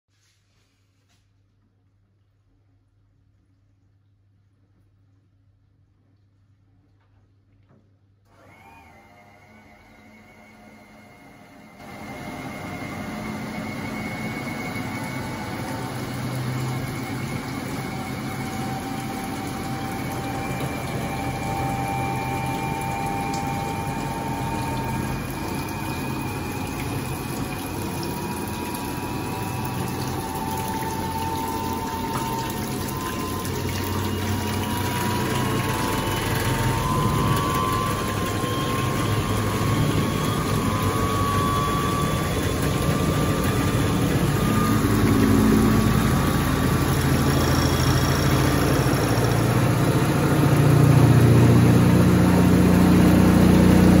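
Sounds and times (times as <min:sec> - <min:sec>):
drain pump running: 0:01.6 - 0:54.0
washing machine spinning: 0:01.8 - 0:54.0.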